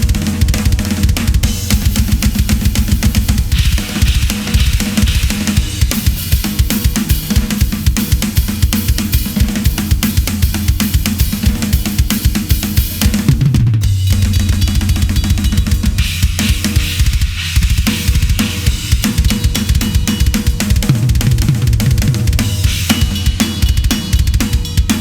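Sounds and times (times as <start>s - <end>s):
drum kit playing: 0.0s - 25.0s.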